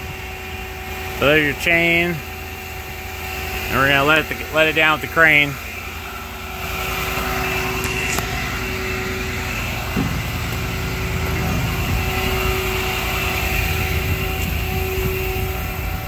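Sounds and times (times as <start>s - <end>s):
crane engine running: 0.0s - 16.0s.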